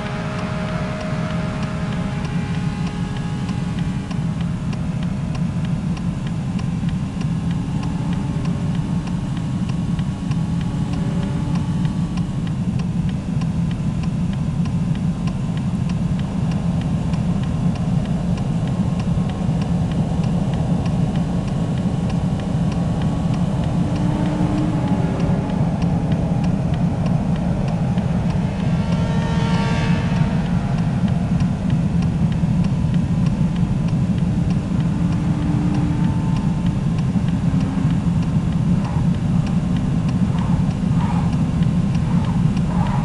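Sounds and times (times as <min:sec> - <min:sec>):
faint regular ticking: 0:00.0 - 0:43.0
low engine rumble: 0:00.0 - 0:43.0.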